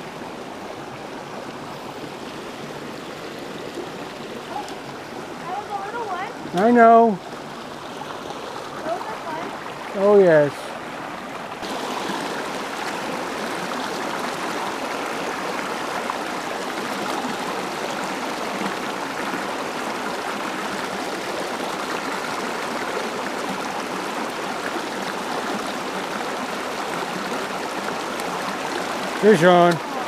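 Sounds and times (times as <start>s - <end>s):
stream babbling over stones: 0.0s - 30.0s.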